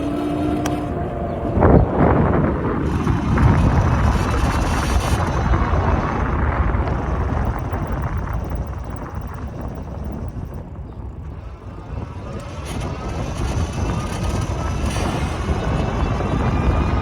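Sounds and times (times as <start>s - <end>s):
electric motor whine: 0.0s - 17.0s
sharp rattles: 0.0s - 17.0s
wind and road rumble: 0.0s - 17.0s.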